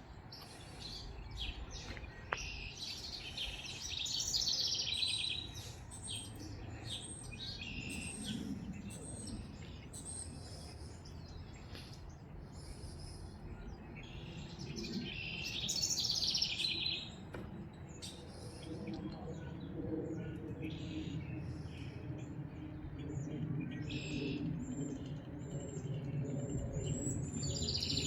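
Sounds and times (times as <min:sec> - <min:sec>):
low wind rumble: 0:00.0 - 0:28.0
rapid trilled birdsong: 0:00.0 - 0:28.0
songbirds chirping: 0:00.0 - 0:28.0.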